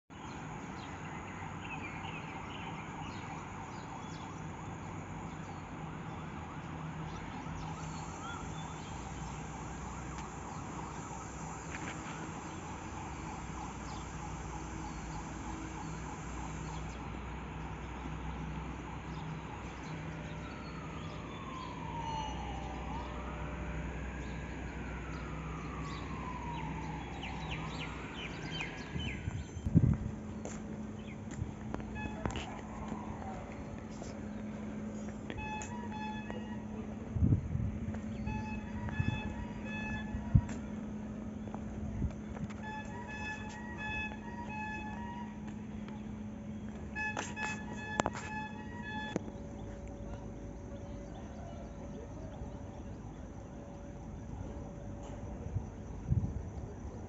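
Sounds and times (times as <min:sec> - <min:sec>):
wailing siren: 0:00.2 - 0:57.0
background rumble and hum: 0:07.1 - 0:57.0.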